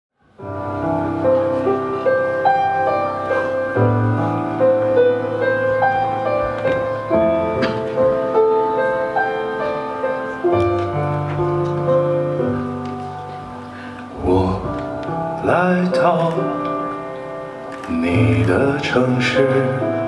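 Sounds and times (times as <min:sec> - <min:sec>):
slow tender piano ballad: 0:00.3 - 0:20.0.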